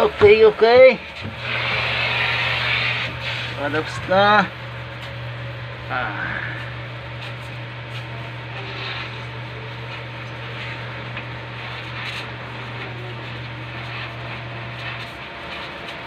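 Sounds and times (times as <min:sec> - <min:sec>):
steady low hum: 0:00.0 - 0:16.0
welding arc crackling: 0:00.0 - 0:16.0.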